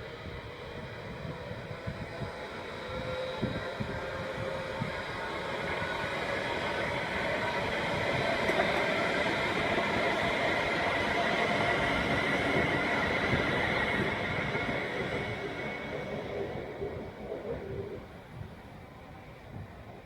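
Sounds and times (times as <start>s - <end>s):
train running noise with whine: 0.0s - 20.0s.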